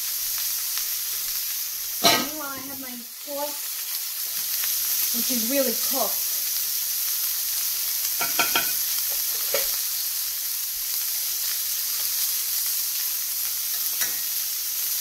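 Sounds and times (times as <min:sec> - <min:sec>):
steak sizzling in a skillet: 0:00.0 - 0:15.0.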